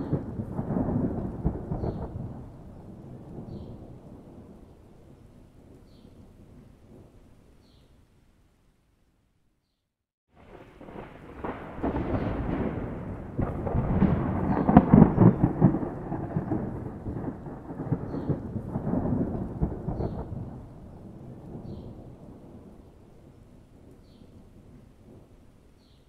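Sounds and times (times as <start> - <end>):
rolling thunder: 0.0 - 7.3, 10.4 - 25.4.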